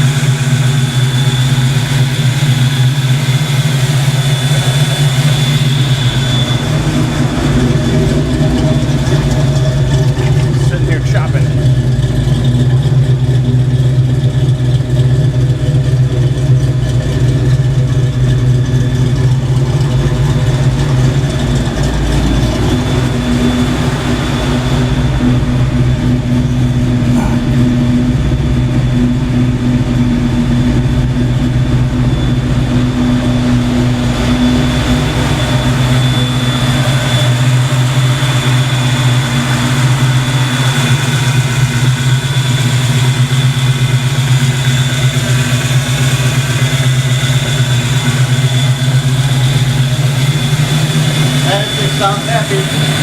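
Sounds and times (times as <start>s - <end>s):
car engine lopey idle: 0.0s - 53.0s
electric radiator fans: 0.0s - 53.0s
steady hum: 0.0s - 53.0s.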